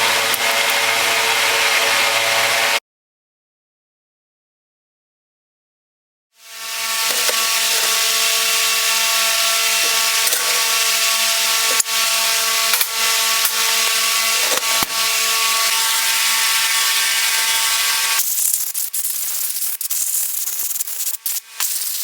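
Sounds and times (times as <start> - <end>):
power tool grinding metal: 0.0 - 2.8, 6.4 - 22.0.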